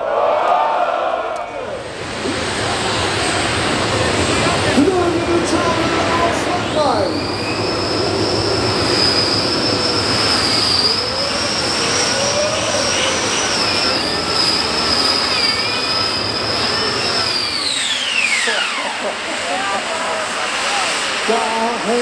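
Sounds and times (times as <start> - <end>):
high-pitched whine: 1.4 - 22.0.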